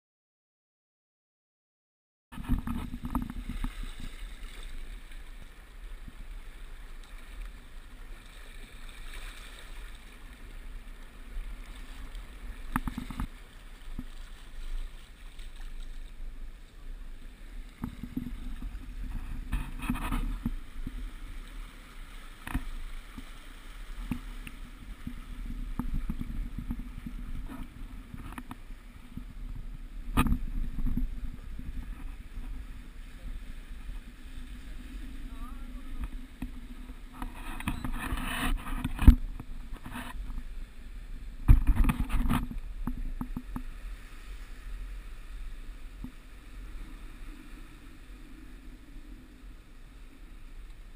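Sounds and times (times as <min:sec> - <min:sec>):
water rushing past hull: 0:02.4 - 0:50.9.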